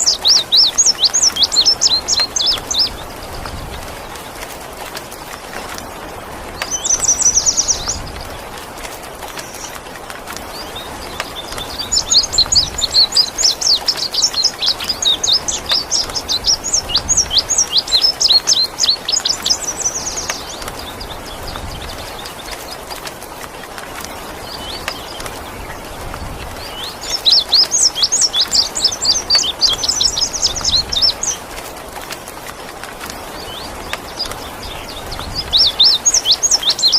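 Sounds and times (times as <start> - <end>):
rain hiss: 0.0 - 36.9.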